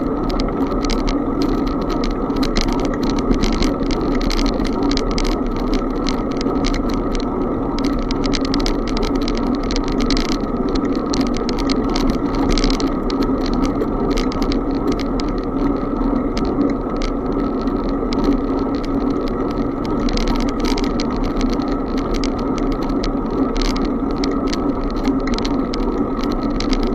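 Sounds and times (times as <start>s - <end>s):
bicycle rattling clicks: 0.0s - 26.9s
wind and road noise: 0.0s - 26.9s.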